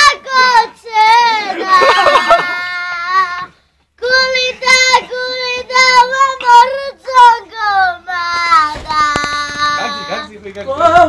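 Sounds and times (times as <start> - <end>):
child singing: 0.0 - 11.0.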